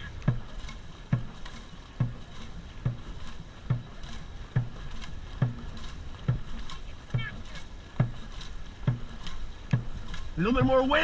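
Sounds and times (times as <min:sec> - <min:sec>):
paddle strokes thumping: 0:00.0 - 0:11.0
water rushing: 0:00.0 - 0:11.0
wind: 0:00.0 - 0:11.0.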